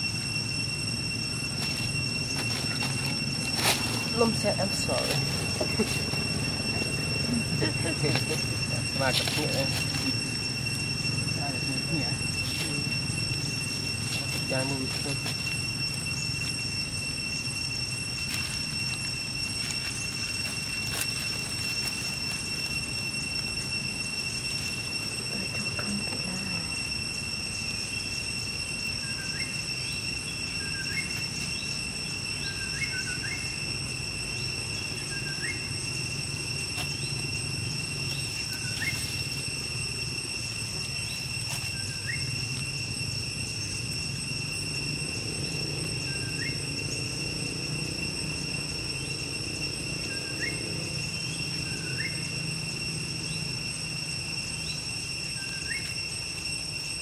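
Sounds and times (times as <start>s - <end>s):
faint rising chirps: 0.0s - 57.0s
insects droning: 0.0s - 57.0s.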